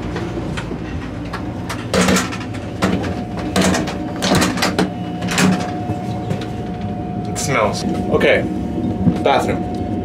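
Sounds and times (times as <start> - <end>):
train running hum: 0.0 - 10.0.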